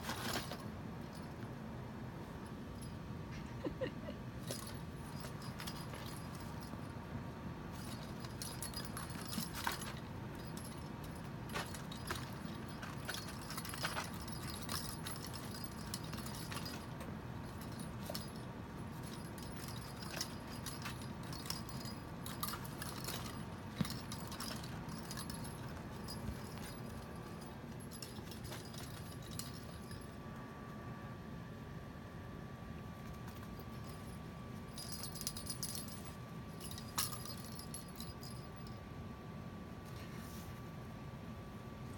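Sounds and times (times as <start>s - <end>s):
kitten playing with rattling object: 0.0s - 1.5s, 4.4s - 30.4s, 32.8s - 38.9s
faint steady hum: 0.0s - 41.9s.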